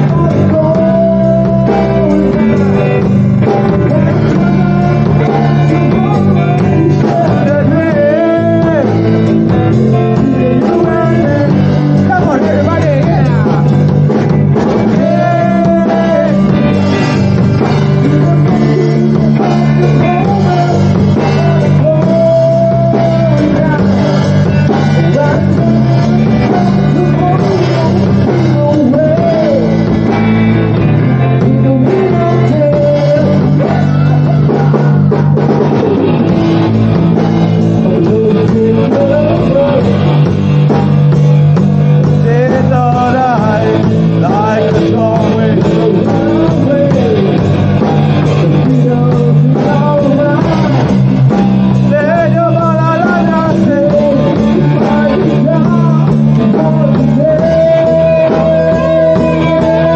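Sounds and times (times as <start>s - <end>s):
rock song with vocals: 0.0s - 59.9s.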